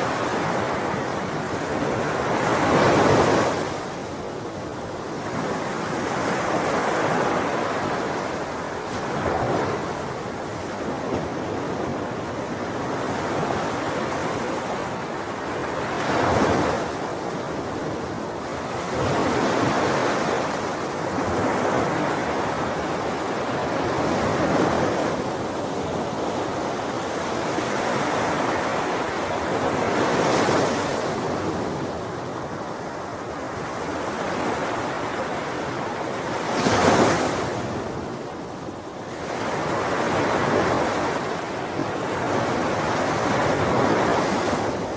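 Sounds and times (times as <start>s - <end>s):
ocean waves breaking on shore: 0.0s - 44.9s.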